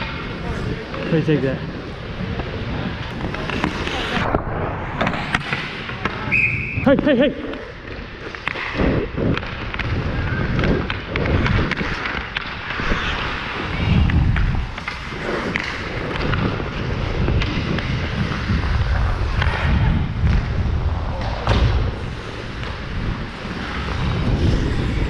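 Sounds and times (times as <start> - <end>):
skate blades scraping ice: 0.0 - 25.0
wind buffeting microphone: 0.0 - 25.0.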